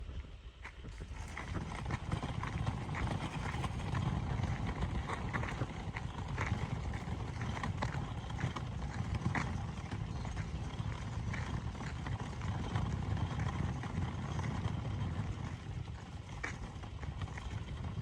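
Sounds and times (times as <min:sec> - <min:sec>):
fire low rumble: 0:00.0 - 0:18.0.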